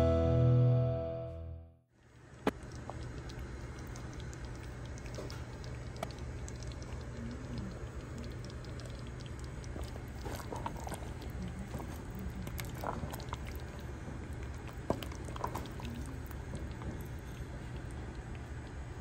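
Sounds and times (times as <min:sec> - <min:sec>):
steady low hum: 0:01.9 - 0:19.0
stew bubbling in a pot: 0:01.9 - 0:19.0.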